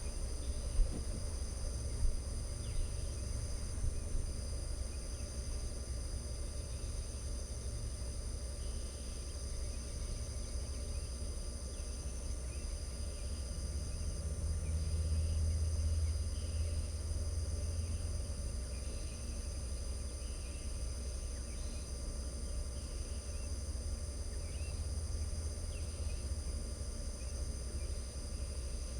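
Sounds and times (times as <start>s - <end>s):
crickets chirping: 0.0s - 28.9s.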